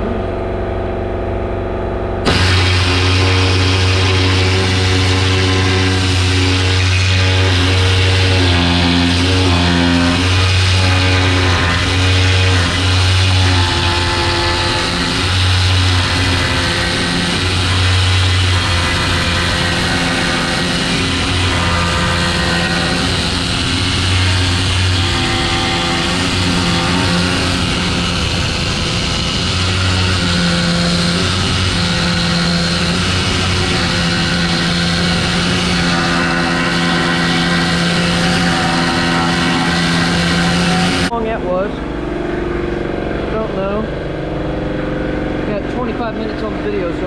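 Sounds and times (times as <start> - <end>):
needle scaler buzzing rattle: 2.2 - 41.2.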